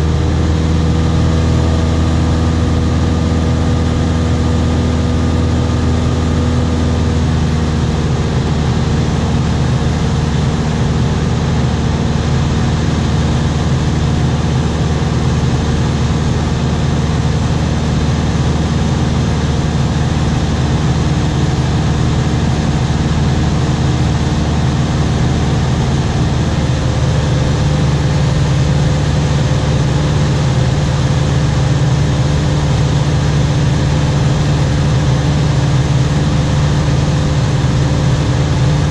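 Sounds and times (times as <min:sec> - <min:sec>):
aircraft engine droning: 0:00.0 - 0:38.9.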